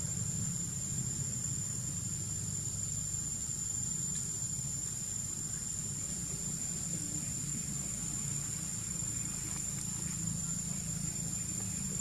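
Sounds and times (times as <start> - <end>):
insects droning high-pitched whine: 0.0 - 12.0.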